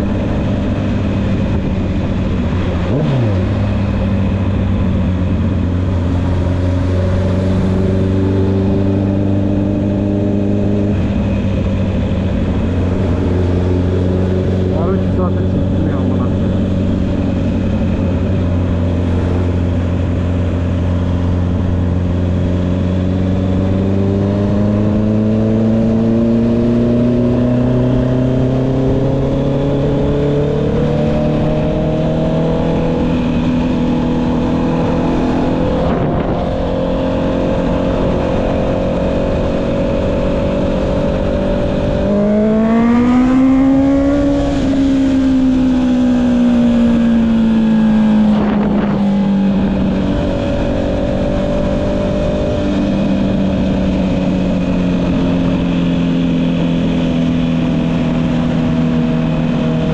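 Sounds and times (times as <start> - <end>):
motorcycle engine while riding: 0.0 - 59.9.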